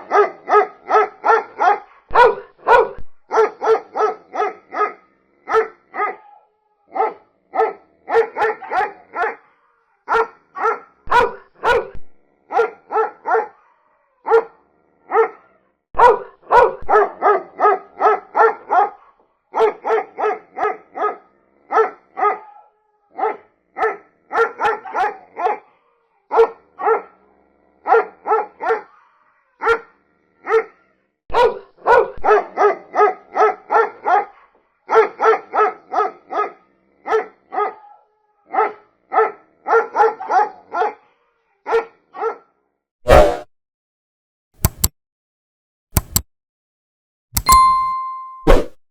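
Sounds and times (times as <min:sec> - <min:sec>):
dog barking: 0:00.0 - 0:29.0, 0:29.6 - 0:43.5.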